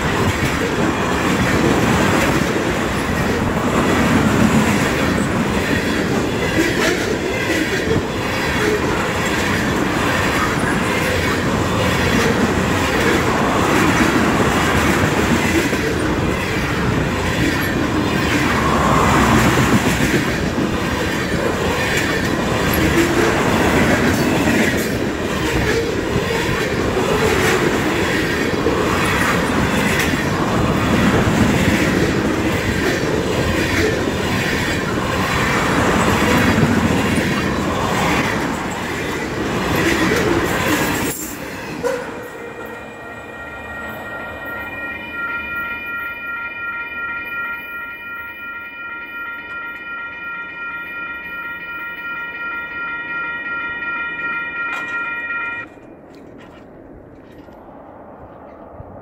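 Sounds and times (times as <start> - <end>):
freight train rolling past: 0.0 - 59.0
crossing bell ringing: 4.2 - 56.1.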